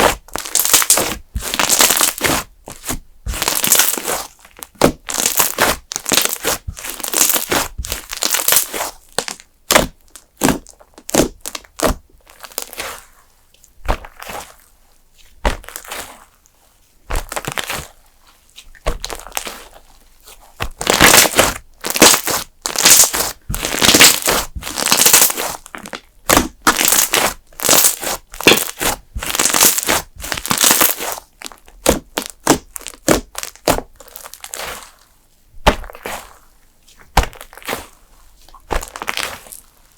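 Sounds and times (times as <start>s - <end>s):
slime crackling and popping: 0.0s - 13.0s, 13.7s - 14.6s, 15.4s - 16.3s, 17.1s - 18.0s, 18.7s - 19.8s, 20.6s - 35.0s, 35.6s - 36.4s, 37.0s - 39.9s.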